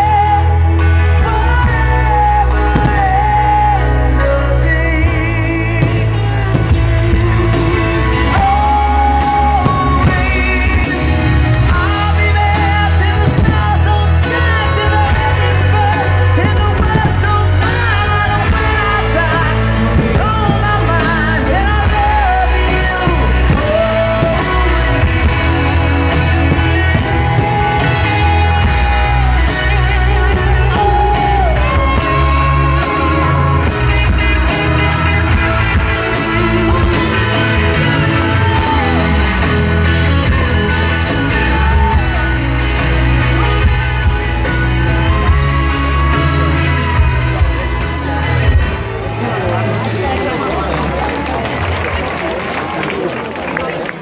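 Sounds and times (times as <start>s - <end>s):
person singing long notes: 0.0s - 49.7s
pop-rock song: 0.0s - 51.4s.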